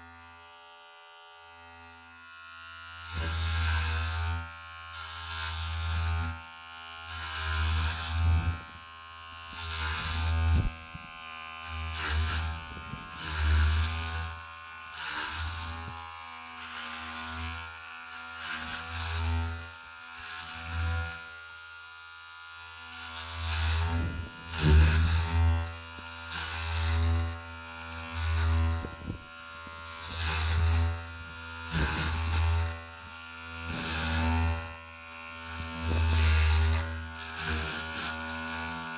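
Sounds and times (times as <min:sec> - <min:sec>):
electric hair clipper buzzing: 0:00.0 - 0:38.9.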